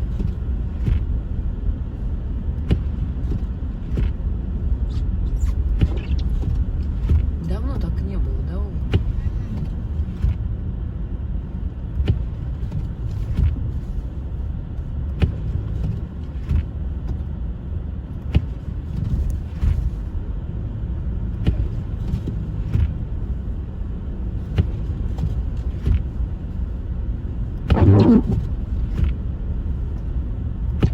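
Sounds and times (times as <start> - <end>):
car engine and tyres rumbling: 0.0 - 30.9.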